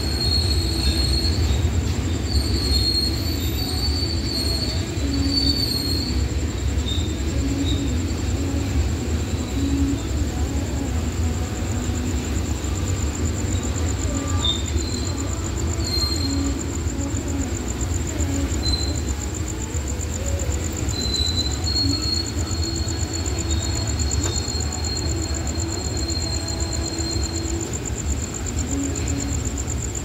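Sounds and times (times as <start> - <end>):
high wheel squeal: 0.0 - 30.0
steady high-pitched whine: 0.0 - 30.0
train wheels rumbling on rails: 0.0 - 30.0.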